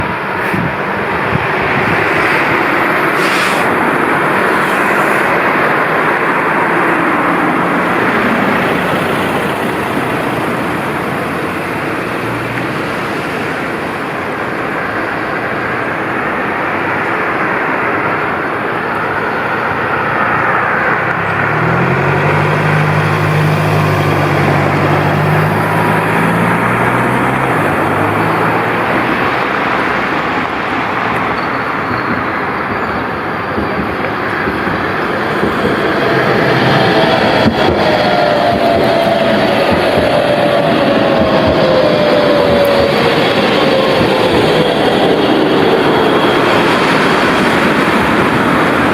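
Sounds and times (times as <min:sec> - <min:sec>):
street traffic noise: 0:00.0 - 0:48.9
tram electric drive humming: 0:00.0 - 0:48.9.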